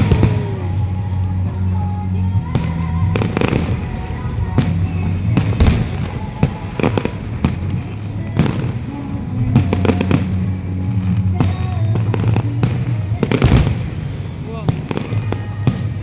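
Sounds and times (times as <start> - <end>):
fireworks banging: 0.0 - 16.0
music playing: 0.0 - 16.0.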